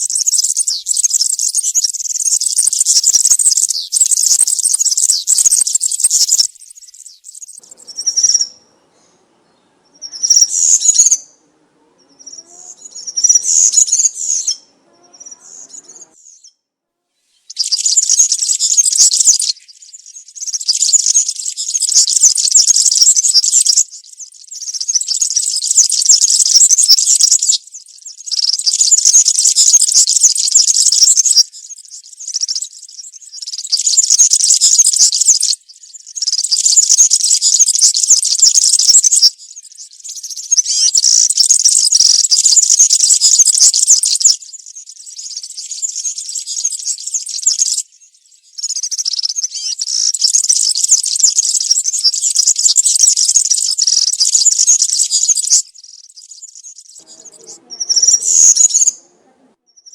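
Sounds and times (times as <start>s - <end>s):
bird singing jingling song: 0.0s - 16.6s, 17.4s - 59.0s, 59.7s - 59.9s.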